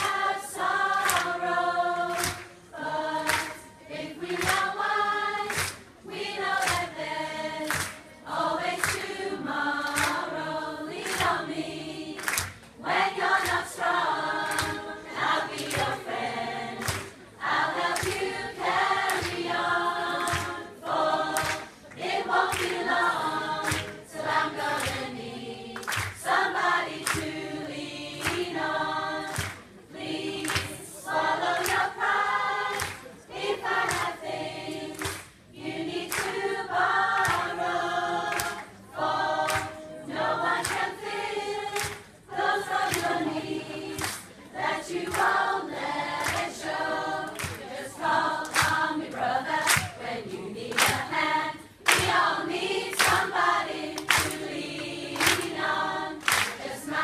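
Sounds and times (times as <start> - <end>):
choir of women singing: 0.0 - 57.0.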